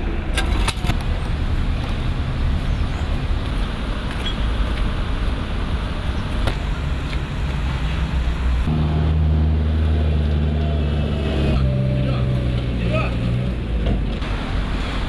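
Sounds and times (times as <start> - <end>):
engine running hum: 0.0 - 15.0
street traffic rumble: 0.0 - 15.0.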